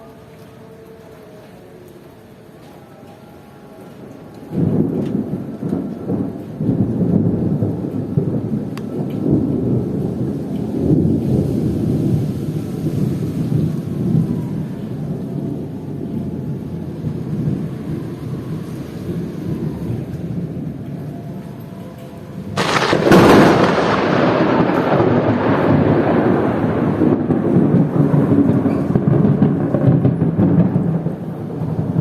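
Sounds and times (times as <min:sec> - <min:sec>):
heavy rain: 0:00.0 - 0:32.0
thunder rumbling: 0:04.5 - 0:32.0.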